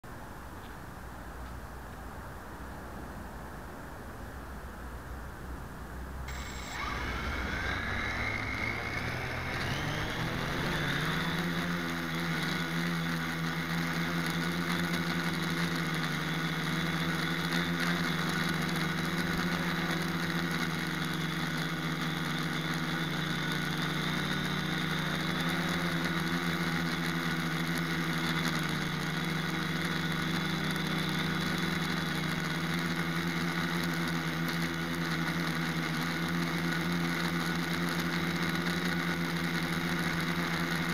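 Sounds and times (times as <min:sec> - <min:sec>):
quadcopter motors whining: 0:06.3 - 0:40.9.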